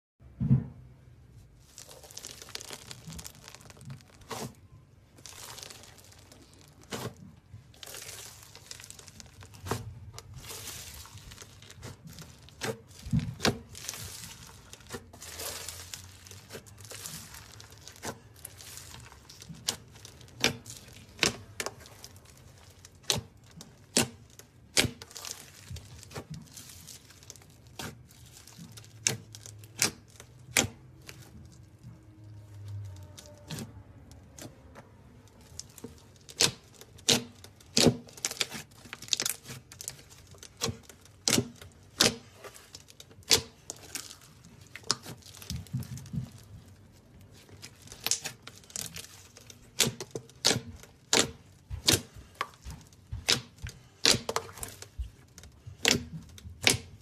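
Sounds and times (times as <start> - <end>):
crunchy slime crackling: 1.2 - 57.0
slime popping: 1.6 - 57.0.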